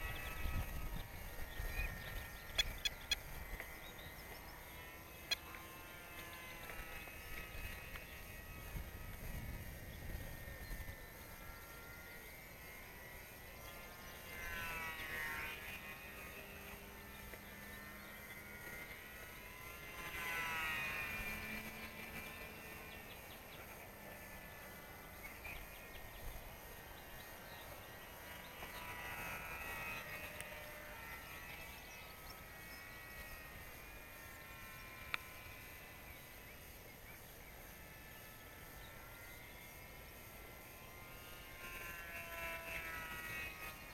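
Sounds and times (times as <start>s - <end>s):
model airplane motor whine: 0.0s - 43.9s.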